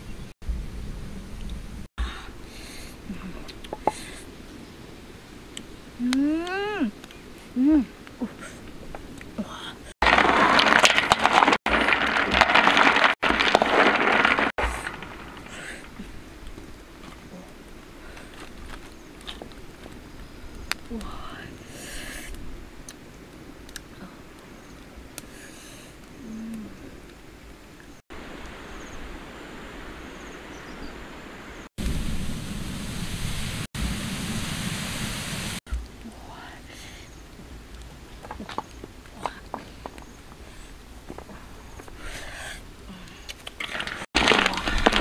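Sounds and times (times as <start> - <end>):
faint outdoor ambience: 0.0 - 10.0, 14.6 - 44.0.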